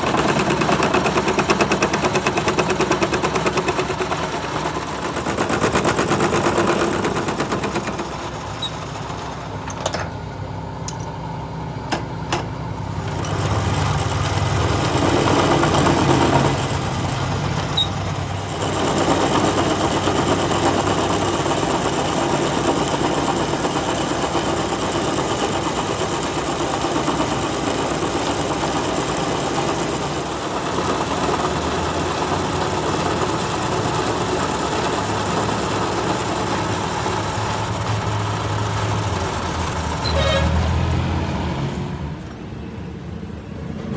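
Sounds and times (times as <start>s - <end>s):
metal lathe running: 0.0s - 41.0s.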